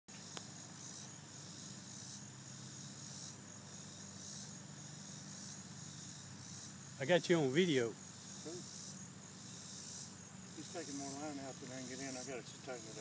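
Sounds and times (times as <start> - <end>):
high pulsing buzzing: 0.1 - 13.0
insects chirping: 0.1 - 13.0.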